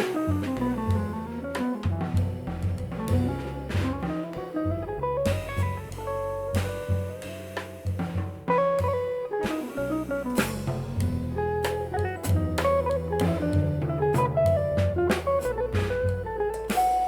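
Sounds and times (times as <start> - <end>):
cymbal and drum strikes: 0.0 - 4.5, 5.2 - 17.0
electric guitar melody: 0.0 - 17.0
walking bass line: 0.0 - 17.0.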